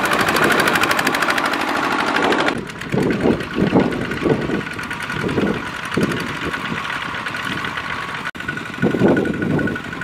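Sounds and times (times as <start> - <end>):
diesel engine clattering: 0.0 - 10.0.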